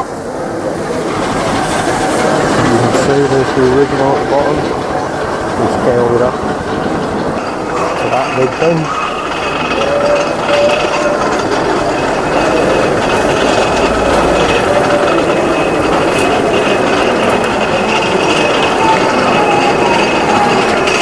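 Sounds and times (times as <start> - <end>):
distant voices: 0.0 - 21.0
running machinery: 0.0 - 21.0.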